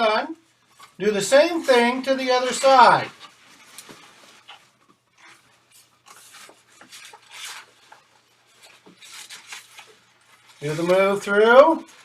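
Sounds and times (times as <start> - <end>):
balloons rubbing and squeaking: 0.1 - 12.0.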